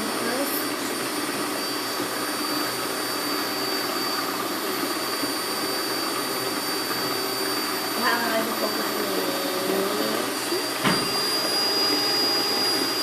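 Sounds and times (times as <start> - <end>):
stand mixer beating batter: 0.0 - 13.0.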